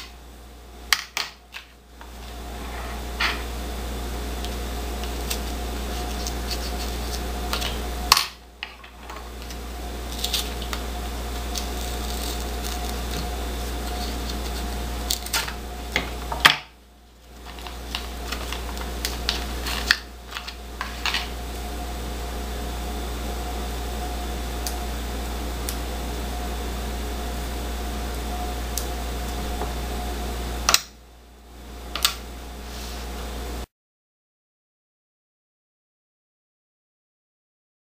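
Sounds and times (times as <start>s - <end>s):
steady hum: 0.0s - 33.7s.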